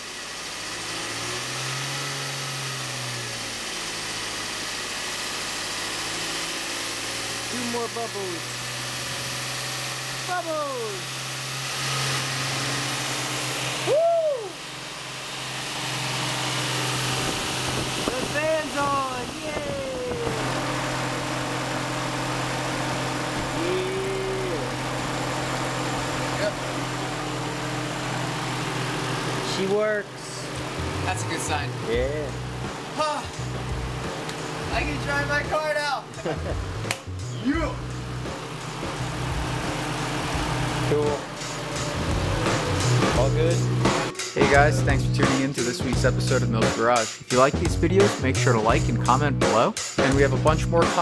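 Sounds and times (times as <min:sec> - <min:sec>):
car engine running: 0:00.0 - 0:51.0
electric radiator fan rushing air: 0:03.0 - 0:46.6.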